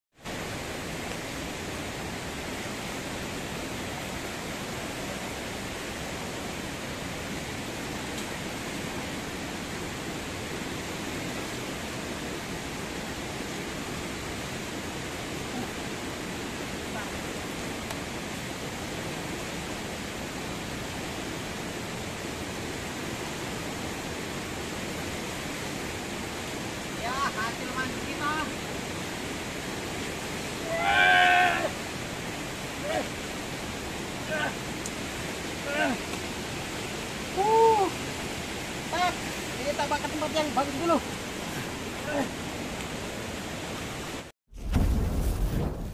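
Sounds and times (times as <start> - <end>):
river rushing over rocks: 0.2 - 44.8.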